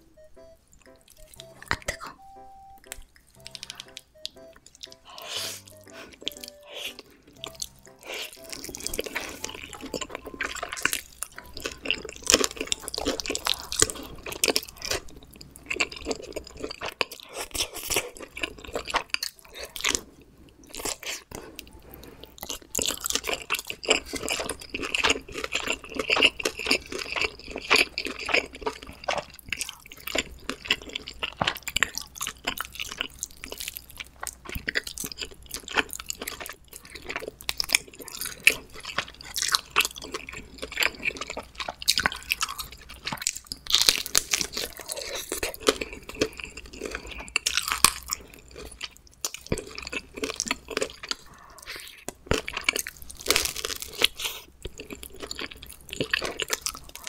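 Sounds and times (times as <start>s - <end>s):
chewing pizza: 3.0s - 57.0s.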